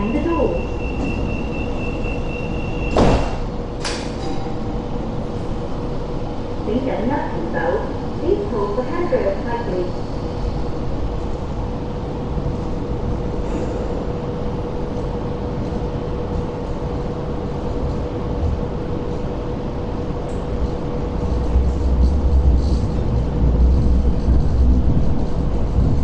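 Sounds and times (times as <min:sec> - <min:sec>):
train car running hum: 0:00.0 - 0:26.0
low rumble: 0:03.0 - 0:26.0.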